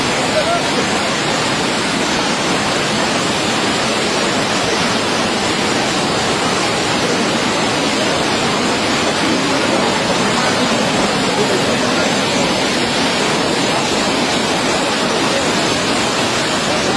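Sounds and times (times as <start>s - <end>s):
floodwater rushing: 0.0s - 16.9s.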